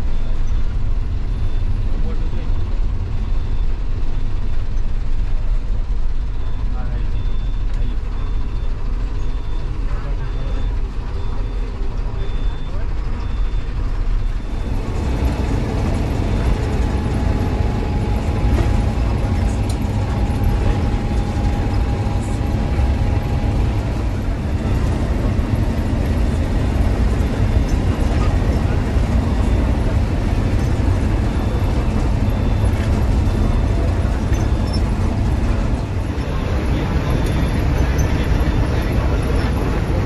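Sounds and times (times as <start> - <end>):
bus engine rumble: 0.0 - 40.0.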